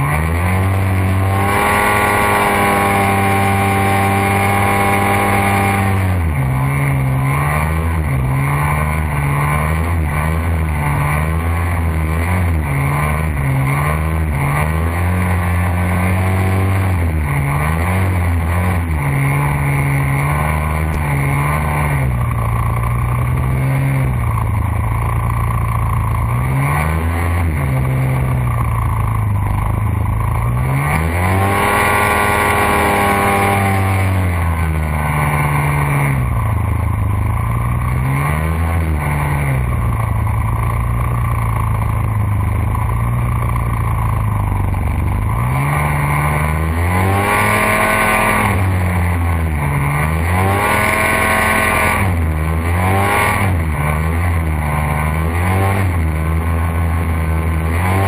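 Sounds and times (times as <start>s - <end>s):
hovercraft engine revving: 0.0s - 58.0s.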